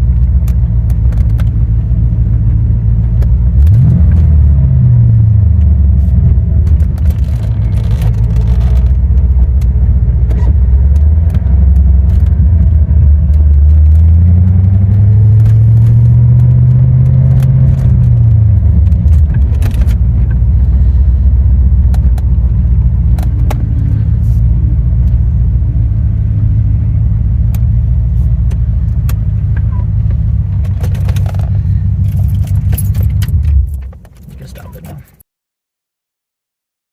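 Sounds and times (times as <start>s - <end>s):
car engine revving: 0.3s - 35.0s.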